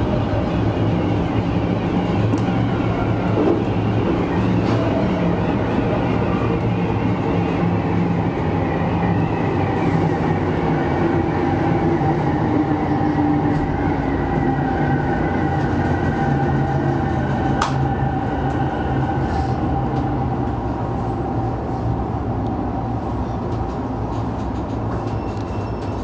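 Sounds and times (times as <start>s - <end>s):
electric train rumble and motor whine: 0.0s - 26.0s.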